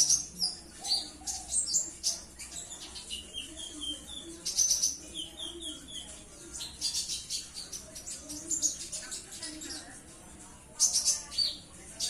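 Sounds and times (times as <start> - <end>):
bird singing high chips and trills: 0.0 - 9.8.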